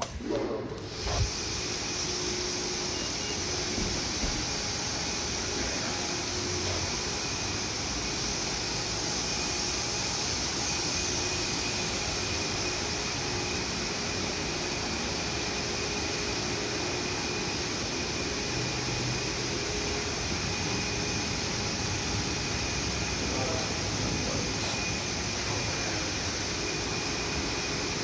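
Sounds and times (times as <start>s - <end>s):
machine hiss: 0.0s - 28.0s.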